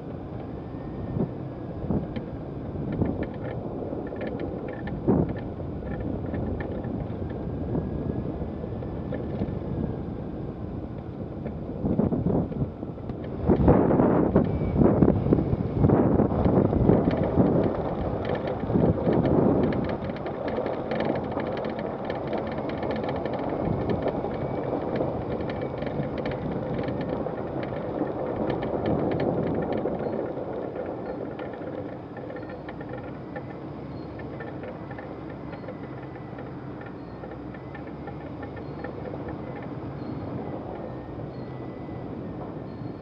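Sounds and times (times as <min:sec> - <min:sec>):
vehicle engine running: 0:00.0 - 0:43.0
wind buffeting microphone: 0:00.0 - 0:43.0.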